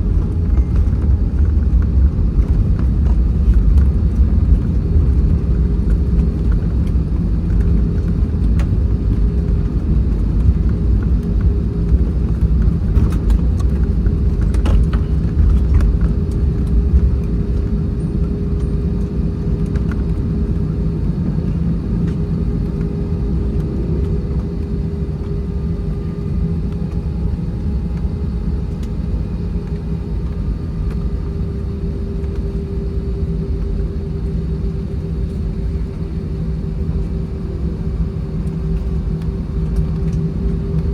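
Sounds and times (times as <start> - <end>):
aircraft cabin rumble: 0.0 - 40.9.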